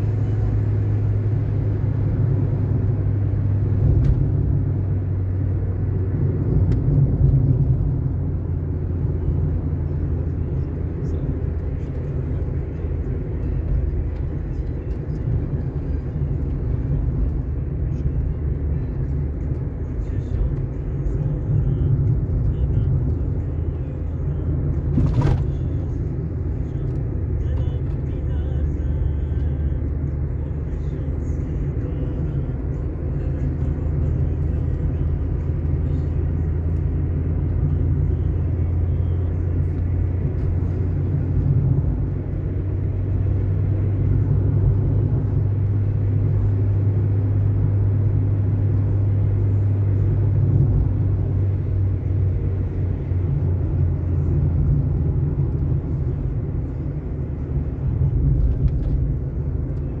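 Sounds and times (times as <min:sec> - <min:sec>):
car driving on asphalt: 0:00.0 - 1:00.0.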